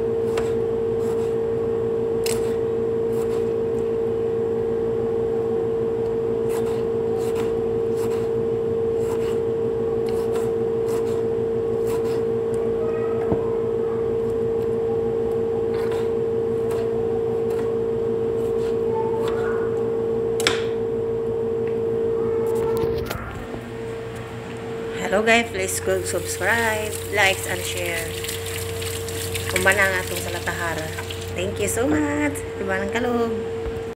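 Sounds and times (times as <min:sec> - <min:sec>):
steady mid-pitched hum: 0:00.0 - 0:33.9.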